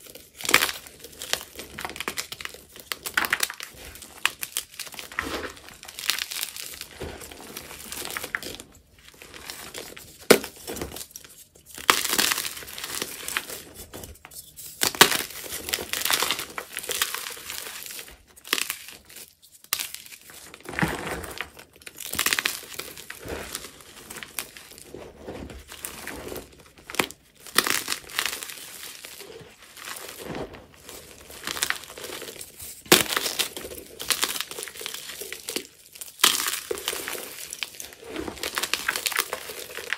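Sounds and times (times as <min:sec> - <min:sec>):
hands crushing chalk blocks: 0:00.1 - 0:39.9.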